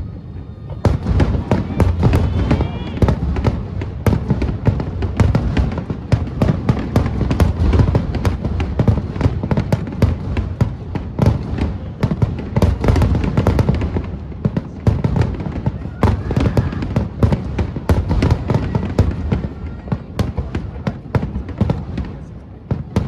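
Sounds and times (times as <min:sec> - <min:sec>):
firework bursts and crackling: 0:00.0 - 0:23.0.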